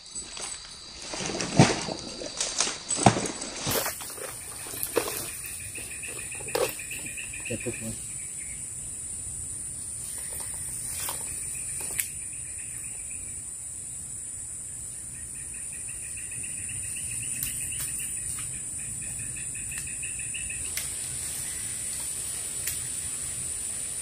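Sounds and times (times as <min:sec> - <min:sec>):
high-pitched insect drone: 0:03.7 - 0:24.0.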